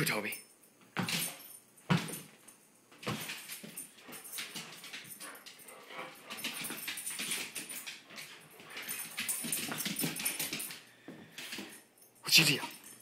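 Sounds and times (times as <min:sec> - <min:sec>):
dog claws clicking on hard floor: 0:00.9 - 0:11.8.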